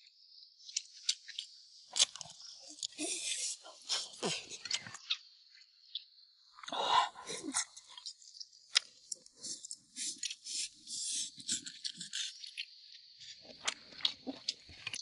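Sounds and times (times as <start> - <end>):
insects chirping: 0.0 - 15.0
soft chewing: 0.8 - 5.2, 6.6 - 15.0.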